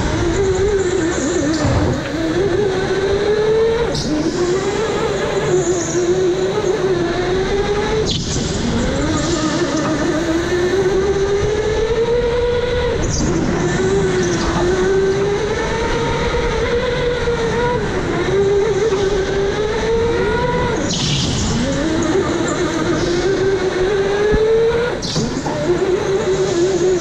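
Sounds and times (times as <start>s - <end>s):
electric go-kart motor whining: 0.0s - 27.0s.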